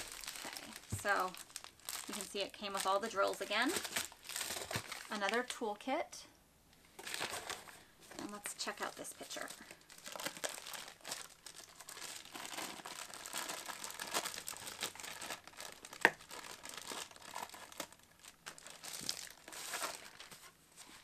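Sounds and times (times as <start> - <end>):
plastic packaging crinkling: 0.0 - 5.7, 7.0 - 21.0.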